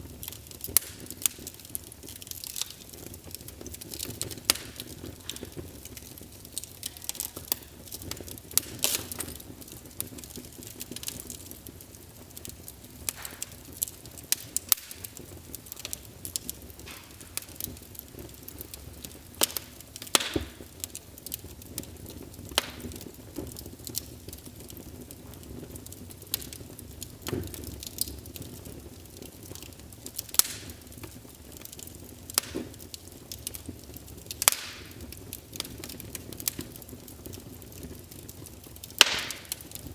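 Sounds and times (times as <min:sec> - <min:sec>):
low steady hiss: 0:00.0 - 0:39.9
wood fire crackling from speaker: 0:00.0 - 0:39.9.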